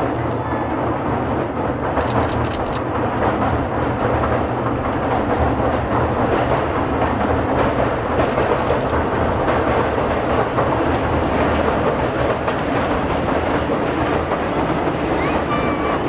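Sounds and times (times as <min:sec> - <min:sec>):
distant train rumble on viaduct: 0:00.0 - 0:16.0.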